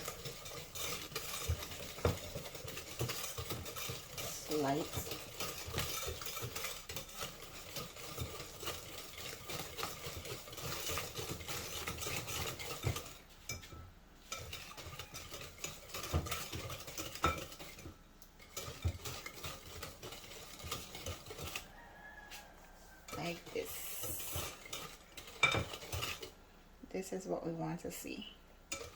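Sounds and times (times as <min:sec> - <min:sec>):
whisk tapping and scraping bowl: 0:00.0 - 0:28.9.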